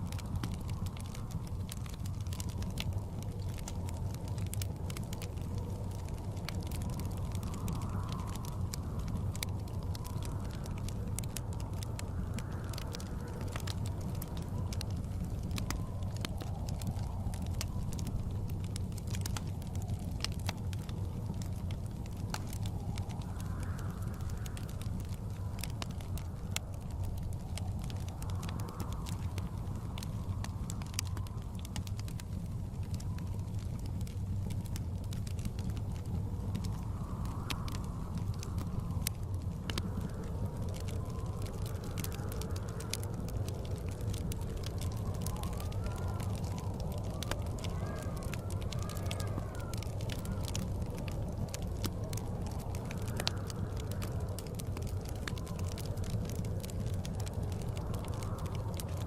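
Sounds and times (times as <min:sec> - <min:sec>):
blizzard wind rumble: 0:00.0 - 0:59.0
wood fire crackling: 0:00.0 - 0:59.0.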